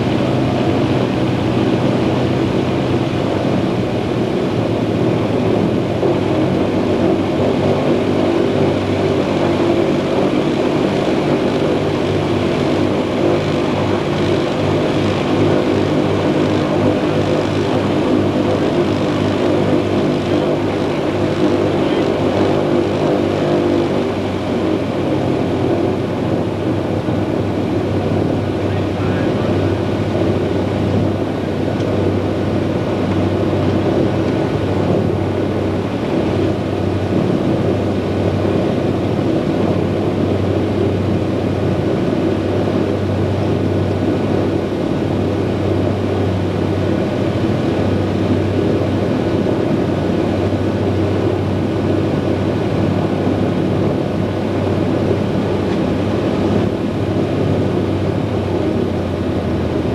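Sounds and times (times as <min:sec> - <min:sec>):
propeller engines droning: 0:00.0 - 0:59.9.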